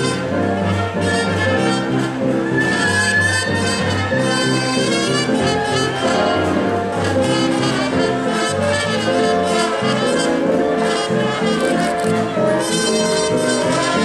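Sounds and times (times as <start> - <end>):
brass chords: 0.0 - 14.0.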